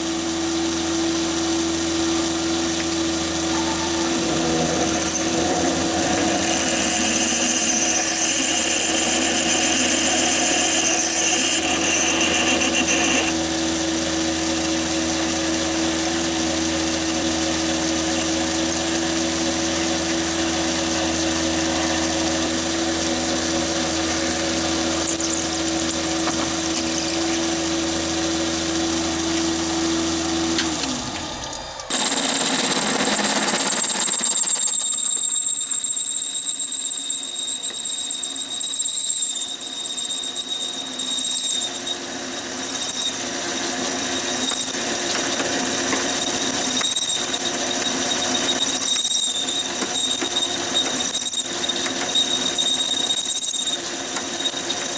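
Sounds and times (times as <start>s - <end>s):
machine high-pitched whine: 0.0s - 53.8s
lathe motor whine: 0.0s - 54.9s.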